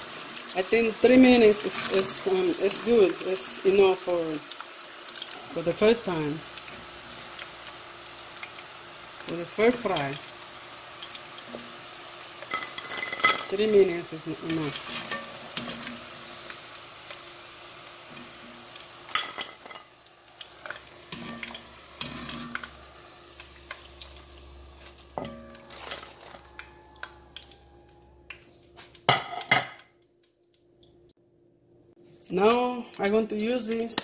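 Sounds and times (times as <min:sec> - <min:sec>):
food sizzling in hot oil: 0:00.0 - 0:29.7.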